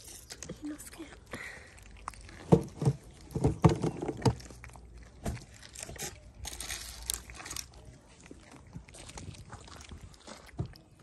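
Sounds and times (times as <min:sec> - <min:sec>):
cats chewing wet food: 0:00.0 - 0:11.0.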